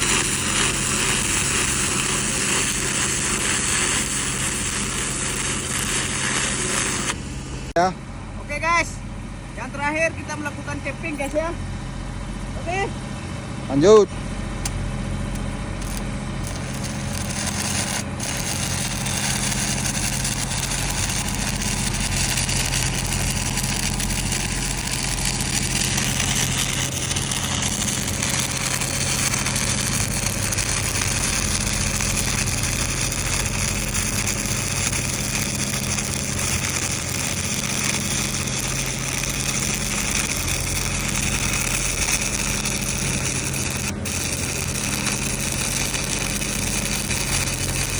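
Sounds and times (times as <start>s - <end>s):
welding arc crackling and hissing: 0.0s - 7.8s, 14.6s - 47.9s
welding machine low hum: 0.0s - 7.8s, 9.0s - 47.9s.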